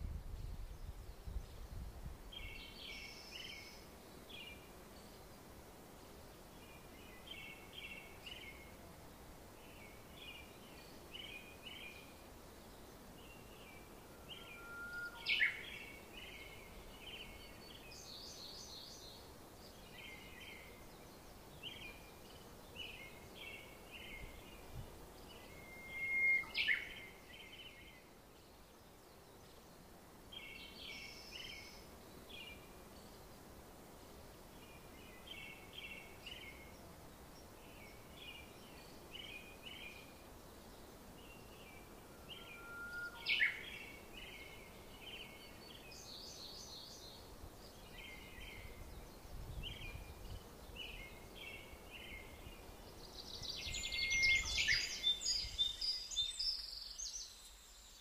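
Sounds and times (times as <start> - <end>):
faint outdoor hiss: 0.0 - 58.0
songbirds chirping: 0.1 - 58.0.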